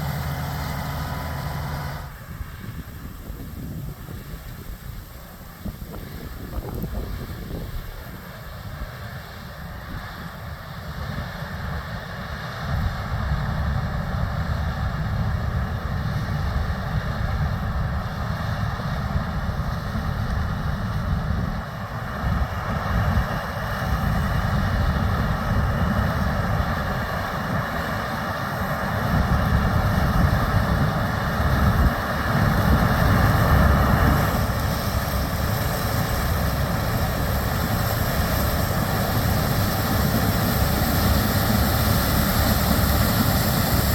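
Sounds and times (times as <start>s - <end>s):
combine harvester rumble: 0.0s - 43.9s
tractor engine: 0.0s - 43.9s.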